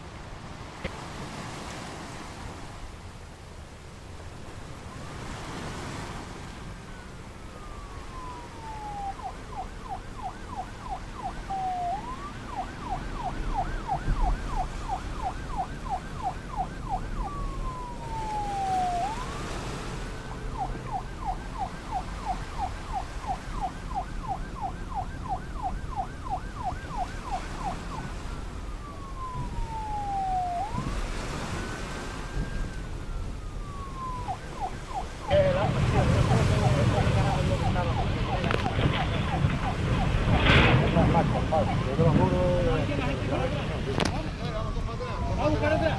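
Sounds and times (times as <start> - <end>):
emergency vehicle siren wailing and yelping: 4.7 - 45.9.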